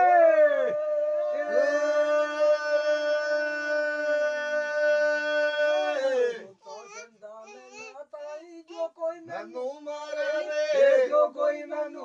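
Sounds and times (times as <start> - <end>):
men singing unaccompanied chant: 0.0 - 6.6, 7.2 - 12.0.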